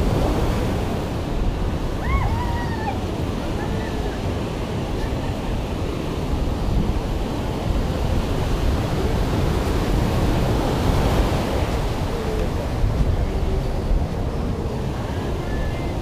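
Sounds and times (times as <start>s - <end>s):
ocean surf breaking: 0.0s - 16.0s
wind on microphone: 0.0s - 16.0s.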